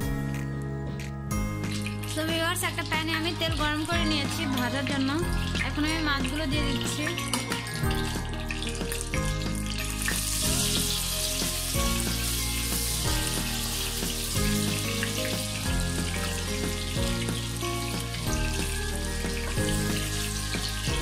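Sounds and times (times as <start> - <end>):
background music: 0.0 - 21.0
fish sizzling in hot oil: 1.4 - 21.0.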